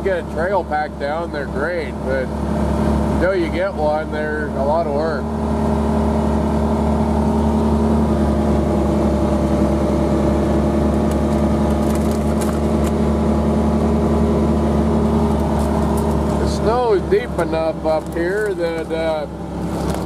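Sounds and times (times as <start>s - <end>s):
tracked vehicle engine droning: 0.0s - 20.0s.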